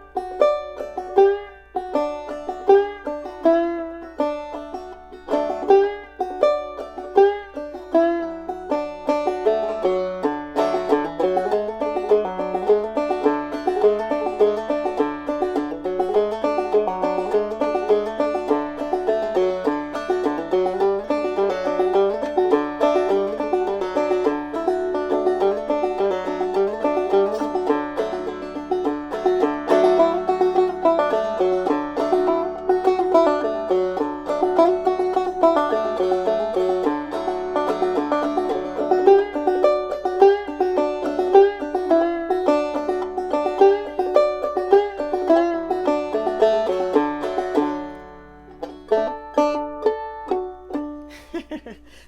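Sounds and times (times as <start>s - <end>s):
clawhammer banjo playing: 0.0s - 52.0s.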